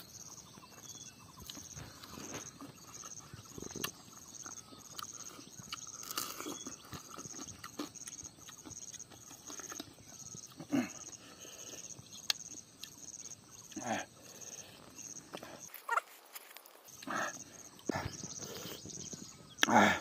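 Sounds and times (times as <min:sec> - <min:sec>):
person chewing food: 0:00.7 - 0:19.8.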